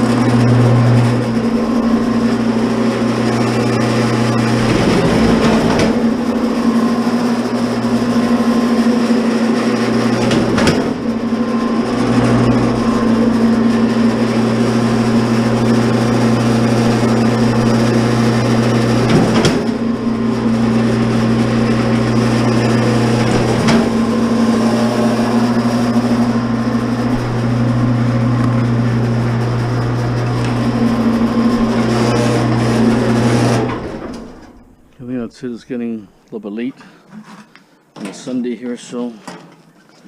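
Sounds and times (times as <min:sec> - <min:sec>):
wire stripper motor humming: 0:00.0 - 0:36.2.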